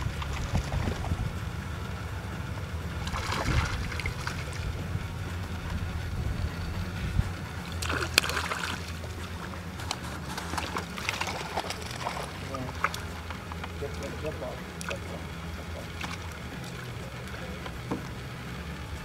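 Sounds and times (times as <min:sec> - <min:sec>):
low rumble: 0:00.0 - 0:19.0
water splashing beside kayak: 0:00.0 - 0:19.0.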